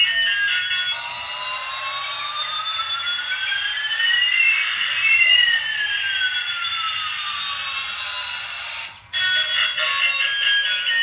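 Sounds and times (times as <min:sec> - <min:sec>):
toy siren-like pitch glides: 0:00.0 - 0:11.0.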